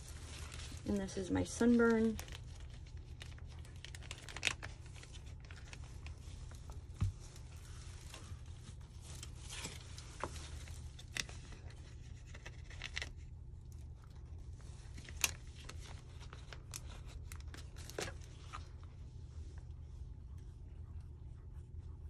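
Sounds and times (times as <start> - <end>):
plastic bag crinkling: 0.0 - 13.3, 14.0 - 18.7
steady low hum: 0.0 - 22.0.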